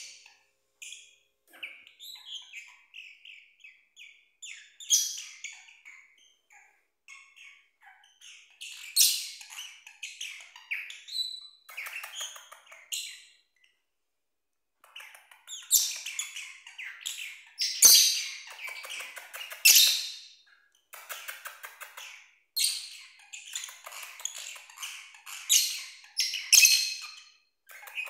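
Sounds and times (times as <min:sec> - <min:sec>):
small parrots chirping: 0:00.0 - 0:13.9, 0:14.8 - 0:28.0.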